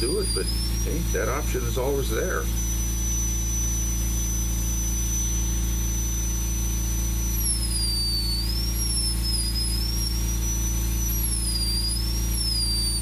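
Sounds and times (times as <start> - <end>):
rotary carver whining into wood: 0.0 - 13.0
steady low hum: 0.0 - 13.0.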